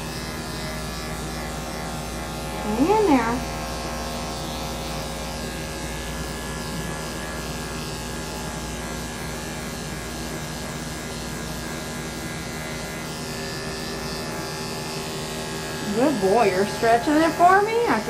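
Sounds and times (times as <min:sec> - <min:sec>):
electric clippers running: 0:00.0 - 0:18.0.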